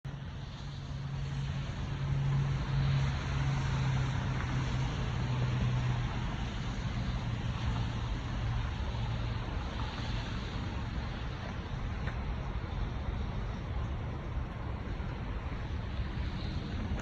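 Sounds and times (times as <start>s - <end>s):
vehicle engine hum: 0.1s - 17.0s.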